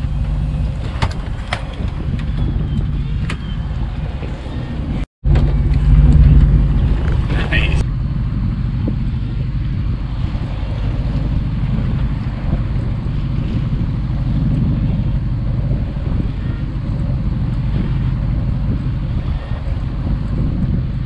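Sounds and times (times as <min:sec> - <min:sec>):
boat engine rumbling: 0:00.0 - 0:21.0
wind buffeting microphone: 0:00.0 - 0:21.0.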